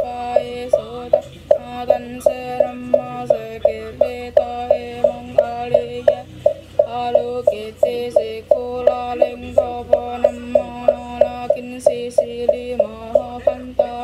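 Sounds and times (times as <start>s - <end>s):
rhythmic chanting: 0.0s - 14.0s
sharp knock on each beat: 0.0s - 14.0s.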